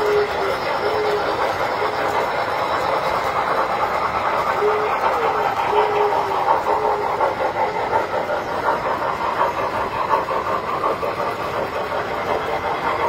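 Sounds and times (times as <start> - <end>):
toy train wheels rattling on rails: 0.0 - 13.0.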